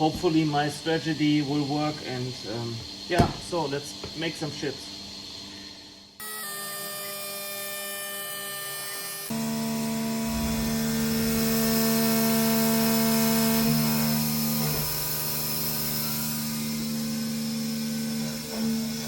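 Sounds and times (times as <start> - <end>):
milling machine spindle whine: 0.0 - 19.0.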